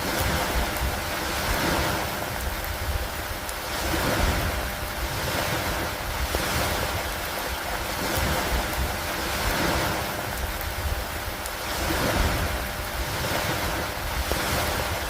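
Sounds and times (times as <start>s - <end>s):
low rumbling wash: 0.0s - 15.0s
steady rain: 0.0s - 15.0s.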